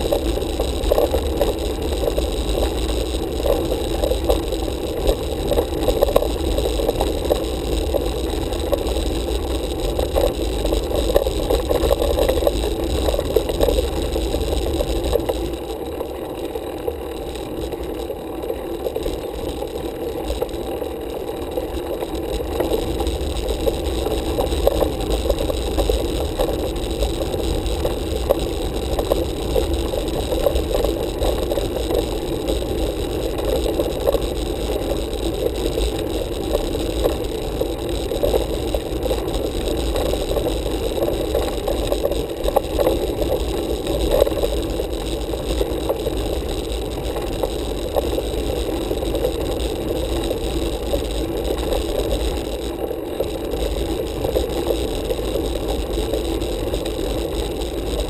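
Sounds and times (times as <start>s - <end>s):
bike tyres rumbling on pavement: 0.0s - 58.0s.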